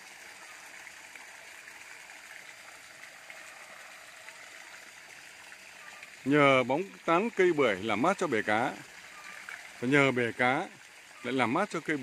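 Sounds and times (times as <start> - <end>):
water splashing into pond: 0.0 - 12.0.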